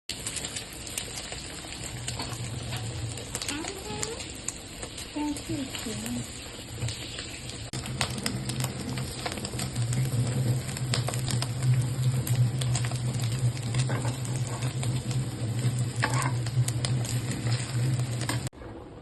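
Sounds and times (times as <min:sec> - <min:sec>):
food sizzling in a pan: 0:00.1 - 0:18.5.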